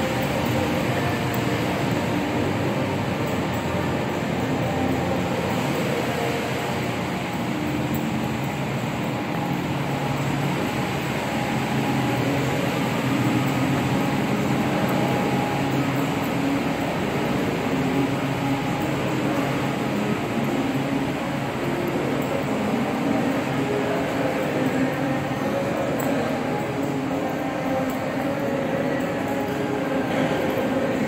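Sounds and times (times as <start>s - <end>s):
ventilation system rushing drone: 0.0s - 31.0s.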